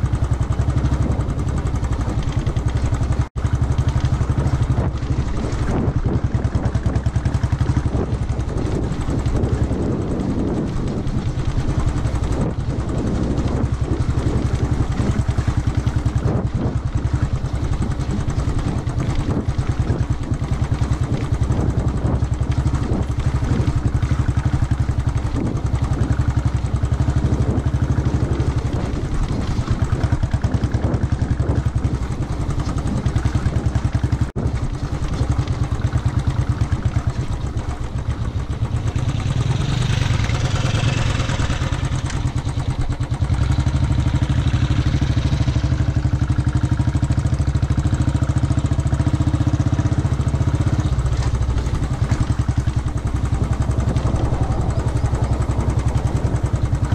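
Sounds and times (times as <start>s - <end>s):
motorcycle engine thumping: 0.0s - 56.9s.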